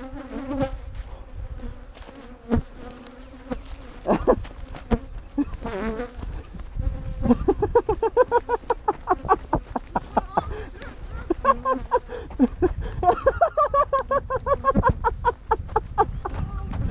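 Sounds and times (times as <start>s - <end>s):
bees buzzing: 0.0s - 16.9s.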